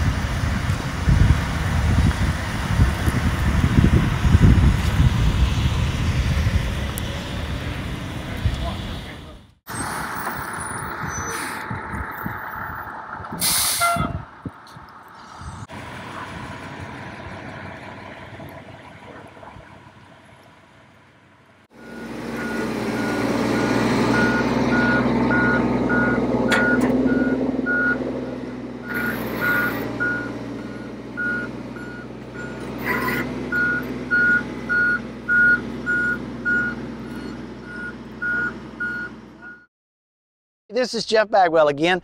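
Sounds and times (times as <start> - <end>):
truck engine running: 0.0 - 39.6.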